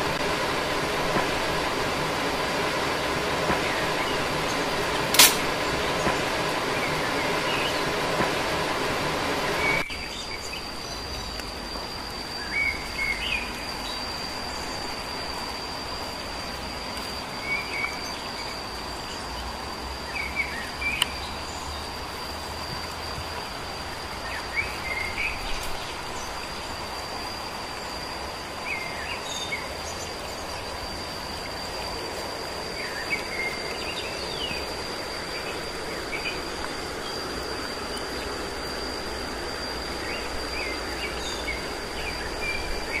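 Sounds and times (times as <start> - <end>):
even hiss: 0.0 - 43.0
insect drone: 0.0 - 43.0.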